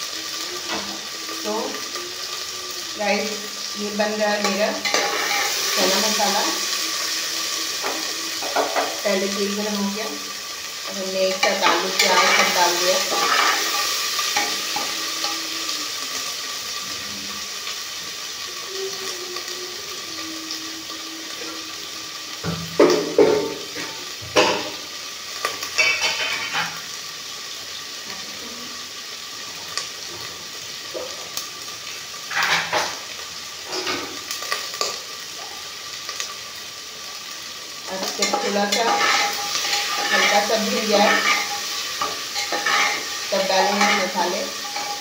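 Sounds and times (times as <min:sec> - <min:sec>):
potatoes and onions sizzling in oil: 0:00.0 - 0:45.0.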